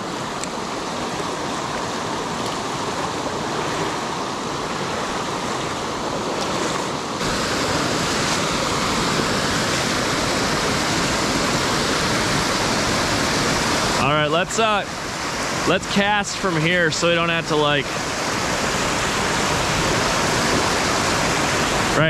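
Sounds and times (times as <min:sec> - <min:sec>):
water rushing over a dam: 0:00.0 - 0:22.0.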